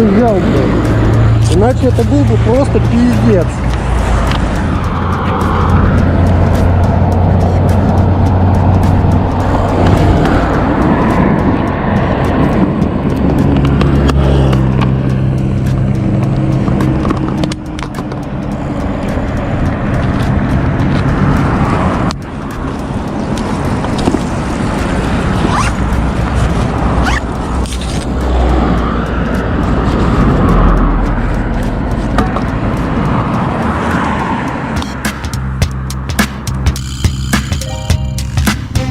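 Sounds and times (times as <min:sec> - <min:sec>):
wind noise rushing: 0:00.0 - 0:36.7.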